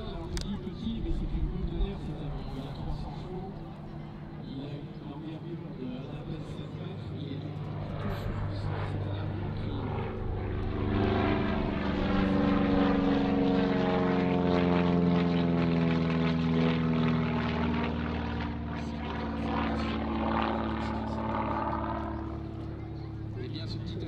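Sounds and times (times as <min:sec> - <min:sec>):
propeller plane flying past: 0:00.0 - 0:24.0.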